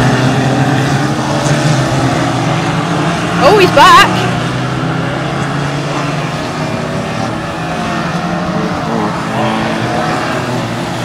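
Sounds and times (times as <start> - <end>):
car engine revving: 0.0 - 11.0
racing car engines running: 0.0 - 11.0.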